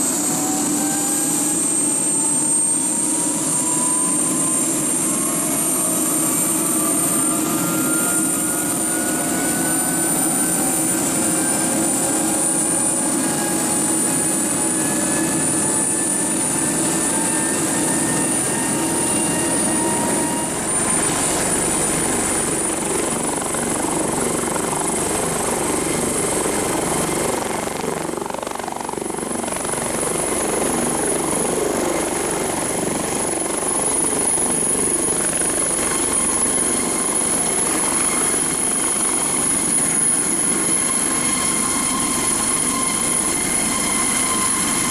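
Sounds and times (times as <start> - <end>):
helicopter rotor noise: 0.0 - 44.9
helicopter turbine whine: 0.0 - 44.9.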